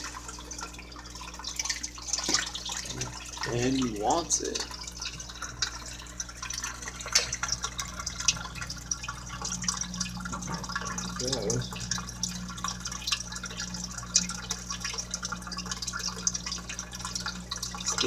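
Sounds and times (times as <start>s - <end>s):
steady low hum: 0.0s - 18.0s
water trickling and dripping: 0.0s - 18.0s.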